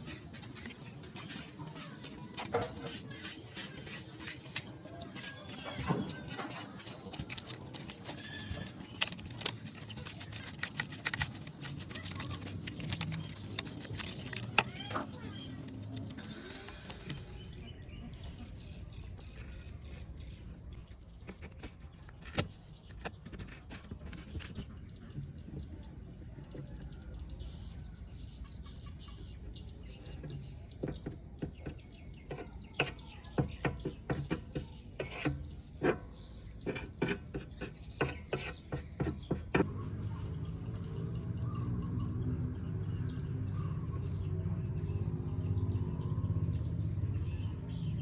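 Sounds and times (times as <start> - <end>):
birds chirping: 0.0 - 39.7.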